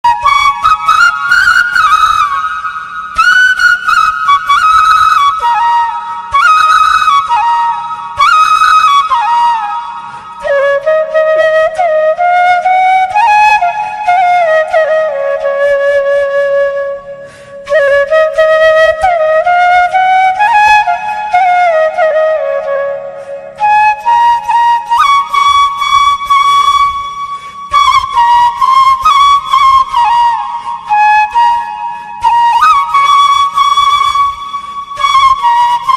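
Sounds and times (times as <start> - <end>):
flute melody: 0.0 - 35.9.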